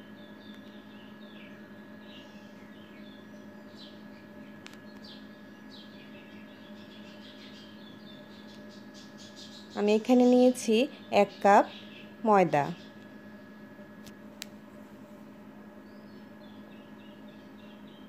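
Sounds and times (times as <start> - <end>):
small birds chirping: 0.0 - 13.7, 15.7 - 18.0
steady low hum: 0.0 - 18.0.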